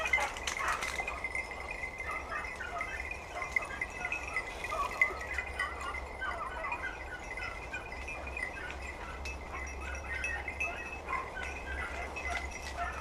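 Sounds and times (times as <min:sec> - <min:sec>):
small metal bell jingling: 0:00.0 - 0:13.0.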